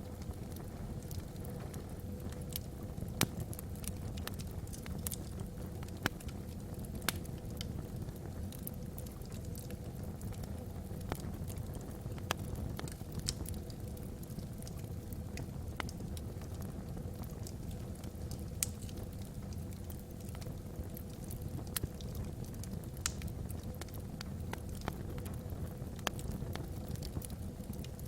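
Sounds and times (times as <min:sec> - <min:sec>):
log fire crackling and popping: 0:00.0 - 0:28.0.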